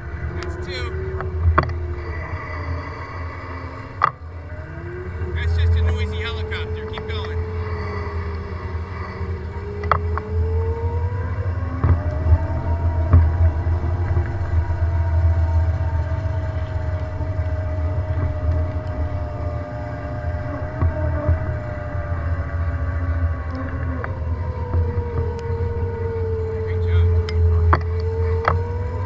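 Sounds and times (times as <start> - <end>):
electric motor whining: 0.0 - 29.0
wind rumble on microphone: 0.0 - 29.0.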